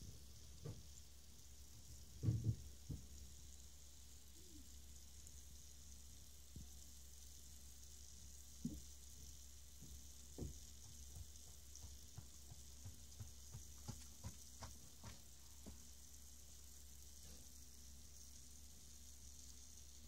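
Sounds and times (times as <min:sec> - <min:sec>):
bacon sizzling on a grill: 0:00.0 - 0:20.0
crackles and pops: 0:00.1 - 0:20.0.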